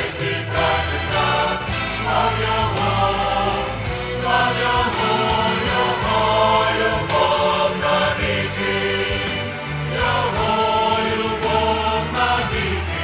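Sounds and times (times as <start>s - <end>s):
instrumental accompaniment: 0.0s - 13.0s
mixed choir singing a hymn: 0.0s - 13.0s.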